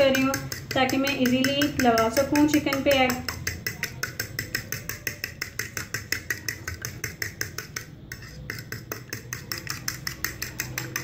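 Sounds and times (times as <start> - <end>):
fork beating eggs on a plate: 0.0 - 11.0.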